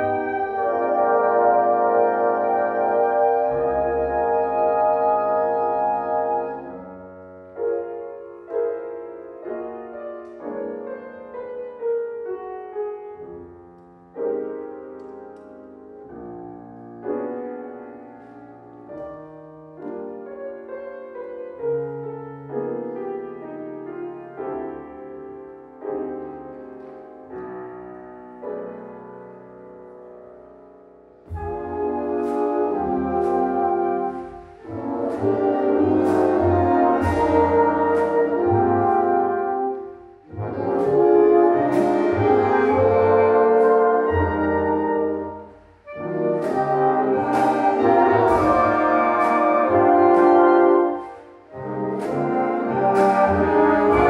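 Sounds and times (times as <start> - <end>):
solo piano slow chords: 0.0 - 54.0.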